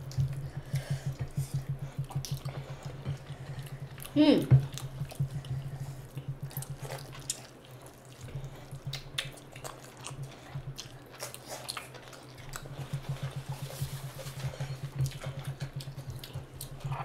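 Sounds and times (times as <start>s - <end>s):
wet chewing and mouth smacking: 0.0s - 17.0s.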